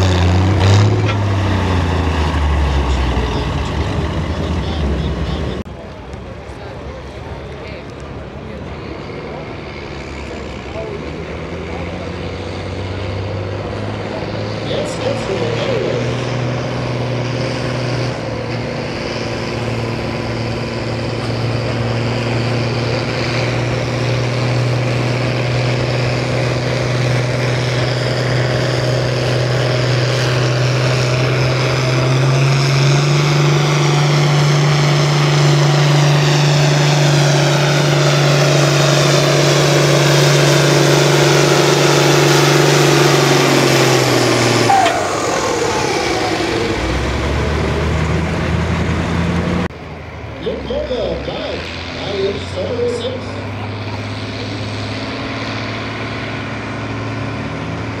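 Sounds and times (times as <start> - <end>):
tractor diesel engine at full load: 0.0 - 58.0.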